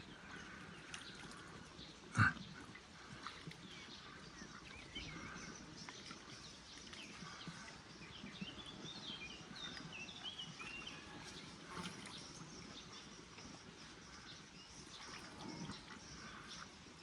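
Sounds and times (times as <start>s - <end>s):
outdoor background noise: 0.0s - 17.0s
small birds twittering: 0.0s - 17.0s.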